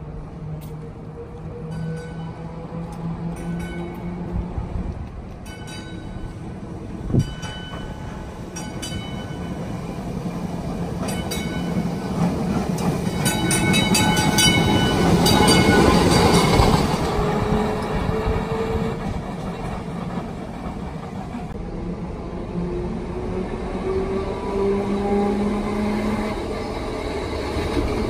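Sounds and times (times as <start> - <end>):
streetcar rolling on track: 0.0 - 28.0.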